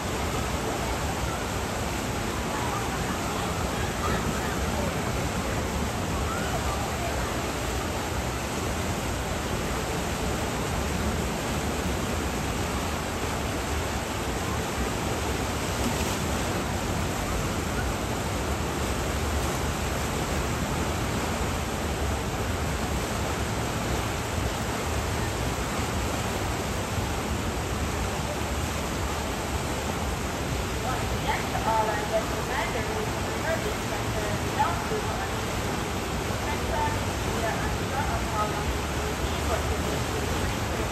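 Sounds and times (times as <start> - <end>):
churning water rushing: 0.0 - 40.9.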